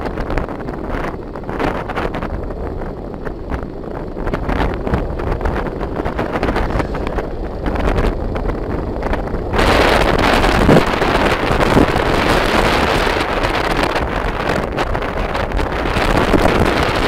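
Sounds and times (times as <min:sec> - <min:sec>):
motorbike engine and road rumble: 0:00.0 - 0:17.0
wind buffeting microphone: 0:00.0 - 0:17.0.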